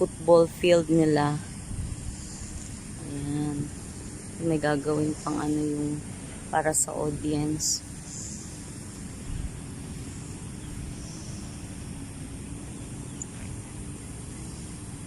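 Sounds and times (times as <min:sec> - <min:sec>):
distant lawn mower engine droning: 0:00.0 - 0:15.0
wind rumble on microphone: 0:00.0 - 0:15.0.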